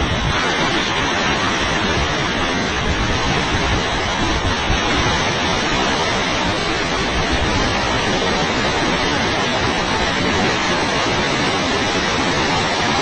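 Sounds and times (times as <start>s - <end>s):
waterfall roaring: 0.0s - 13.0s
wind gusting on microphone: 0.0s - 13.0s.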